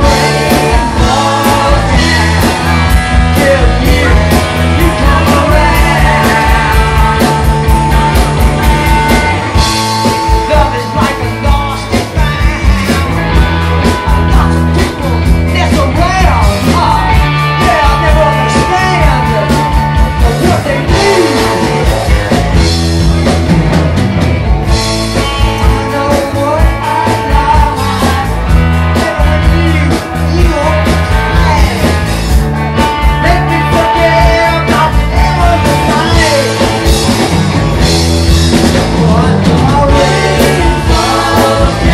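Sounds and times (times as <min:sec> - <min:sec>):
bass guitar: 0:00.0 - 0:41.9
driving drum beat: 0:00.0 - 0:41.9
electric guitar: 0:00.0 - 0:41.9.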